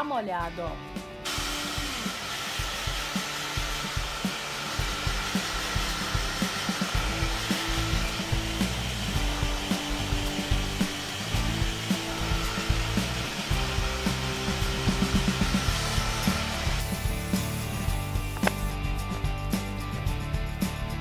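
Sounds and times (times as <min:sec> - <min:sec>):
hair dryer running: 0:01.2 - 0:18.8.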